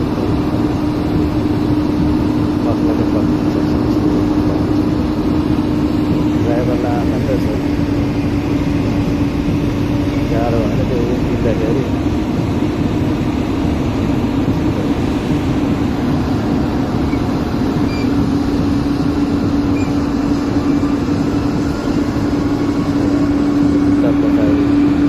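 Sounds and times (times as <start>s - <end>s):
constant hum: 0.0s - 25.0s
heavy diesel machinery rumble: 0.0s - 25.0s.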